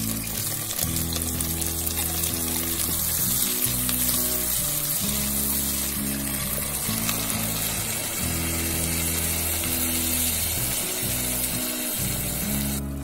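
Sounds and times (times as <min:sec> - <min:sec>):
background music with low notes: 0:00.0 - 0:13.0
pot of food sizzling: 0:00.0 - 0:13.0.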